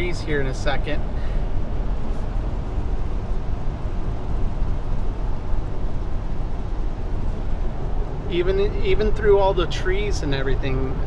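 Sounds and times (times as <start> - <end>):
van road and engine noise: 0.0 - 11.0.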